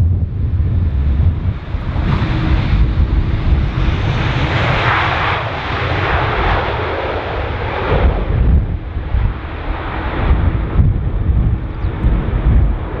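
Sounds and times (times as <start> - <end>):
jet engines running: 0.0 - 13.0
wind rumble on microphone: 0.0 - 13.0.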